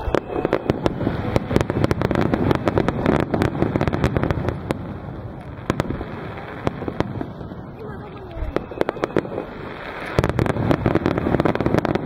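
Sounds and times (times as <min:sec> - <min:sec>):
firework crackles: 0:00.0 - 0:12.0.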